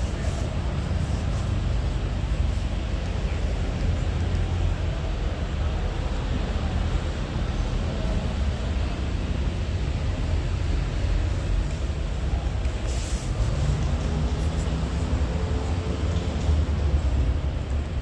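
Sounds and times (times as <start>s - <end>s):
exhibition hall background rumble: 0.0s - 18.0s.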